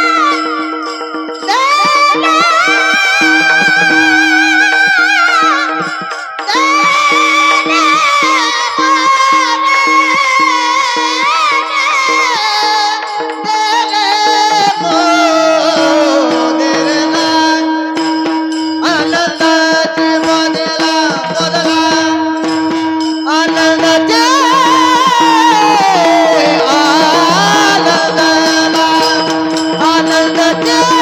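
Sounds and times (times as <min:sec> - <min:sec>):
man singing: 0:00.0 - 0:31.0.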